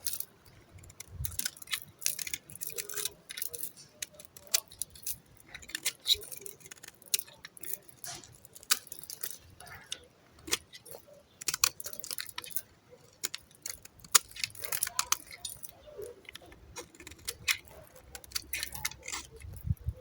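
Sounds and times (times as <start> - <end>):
knife cutting dry soap: 0.8 - 20.0.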